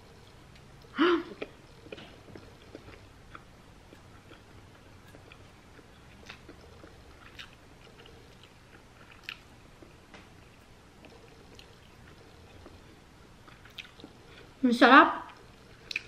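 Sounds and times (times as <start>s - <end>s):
faint chewing: 0.0s - 14.6s, 15.2s - 16.0s.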